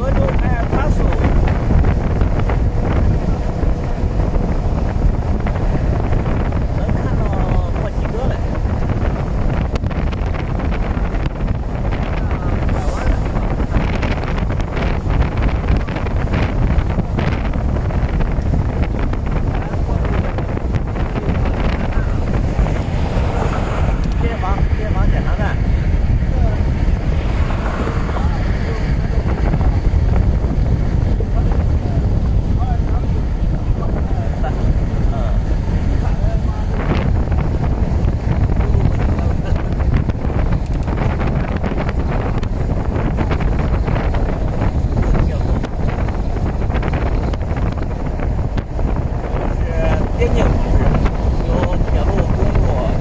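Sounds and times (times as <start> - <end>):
steady low rumble: 0.0 - 53.0
wind buffeting microphone: 0.0 - 53.0.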